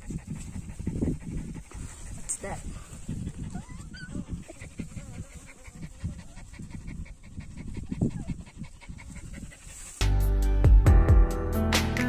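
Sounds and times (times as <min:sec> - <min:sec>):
wind buffeting microphone: 0:00.0 - 0:10.0
faint fast pulsing: 0:00.1 - 0:10.0.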